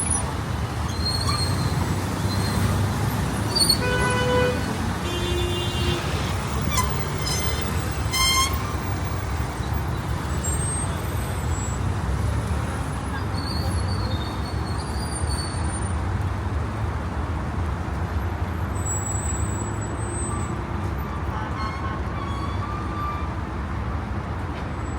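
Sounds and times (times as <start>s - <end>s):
low rumble of road traffic: 0.0s - 24.9s.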